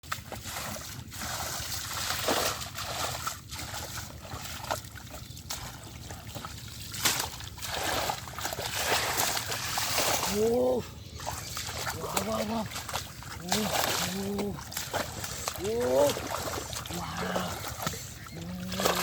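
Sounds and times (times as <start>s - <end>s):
water splashing and sloshing: 0.0s - 19.0s
water trickling: 0.2s - 19.0s.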